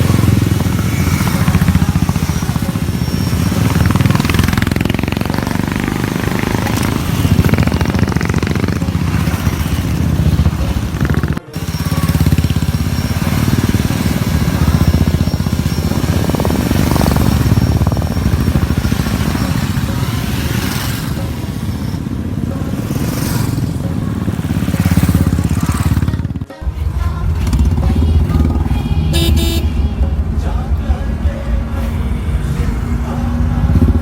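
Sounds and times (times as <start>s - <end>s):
motorcycle engines running: 0.0s - 34.0s.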